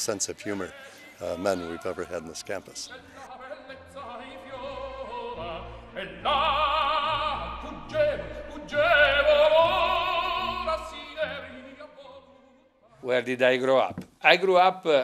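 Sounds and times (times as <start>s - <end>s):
operatic singing with vibrato: 0.0s - 13.3s.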